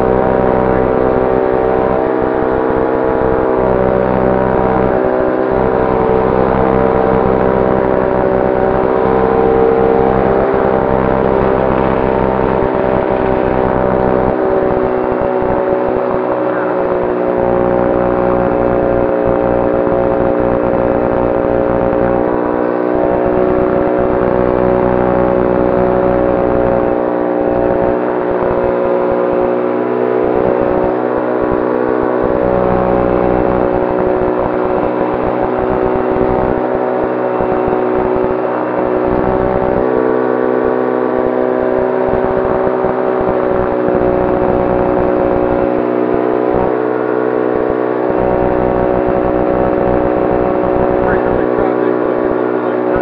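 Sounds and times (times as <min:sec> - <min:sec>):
propeller droning hum: 0:00.0 - 0:53.0.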